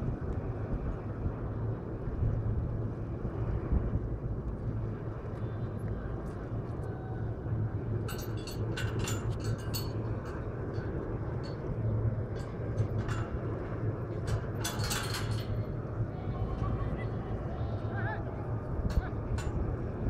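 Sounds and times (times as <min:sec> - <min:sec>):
low hum: 0:00.0 - 0:20.0
low outdoor rumble: 0:00.0 - 0:20.0.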